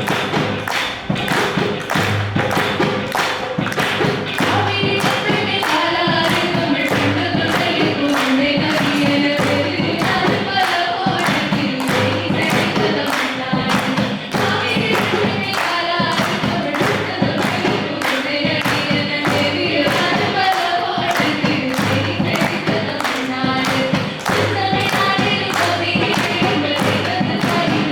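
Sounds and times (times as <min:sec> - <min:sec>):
group of voices singing: 0:00.0 - 0:27.9
percussion beat: 0:00.0 - 0:27.9.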